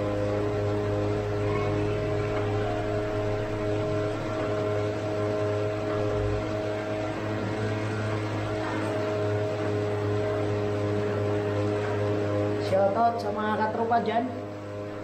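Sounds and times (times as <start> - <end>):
bike tyre spinning on trainer: 0.0 - 12.7.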